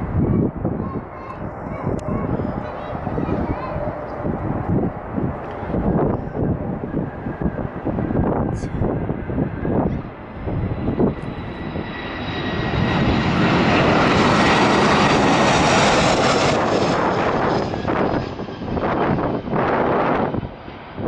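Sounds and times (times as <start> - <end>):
airliner engine whine: 0.0 - 21.0
wind buffeting microphone: 0.0 - 21.0.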